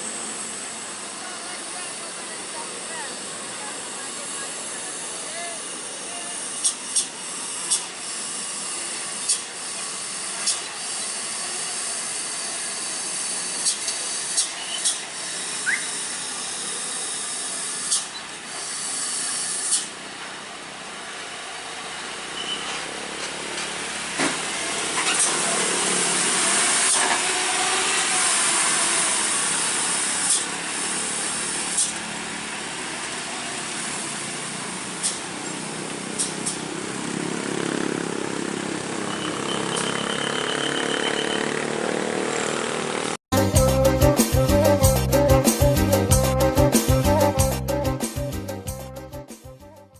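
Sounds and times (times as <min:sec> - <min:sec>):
heavy truck traffic hiss: 0:00.0 - 0:48.6.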